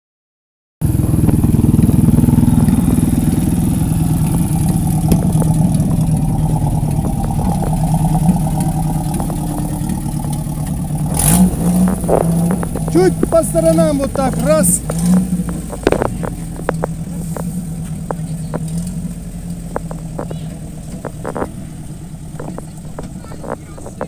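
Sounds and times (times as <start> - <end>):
dirt bike engine idling: 0.8 - 24.0.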